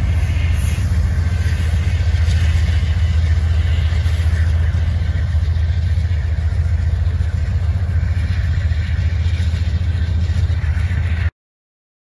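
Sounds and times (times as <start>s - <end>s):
diesel locomotive engine rumble: 0.0s - 11.3s.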